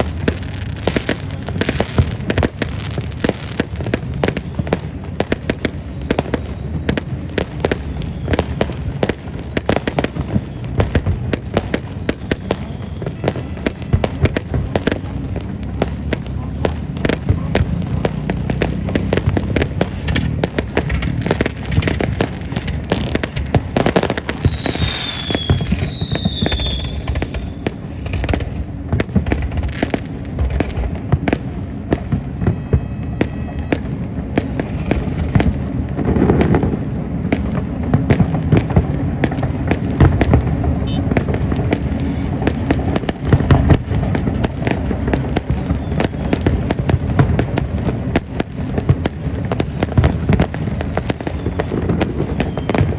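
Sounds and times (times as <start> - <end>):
firework whistles: 0.0 - 30.0, 32.0 - 36.7, 40.8 - 52.9
fireworks crackling and banging: 0.0 - 52.9.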